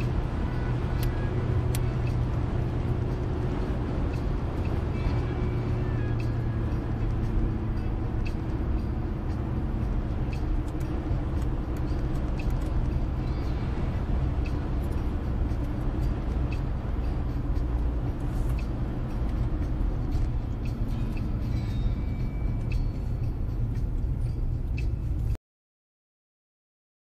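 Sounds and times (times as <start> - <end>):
car engine and tyres rumbling: 0.0 - 25.4.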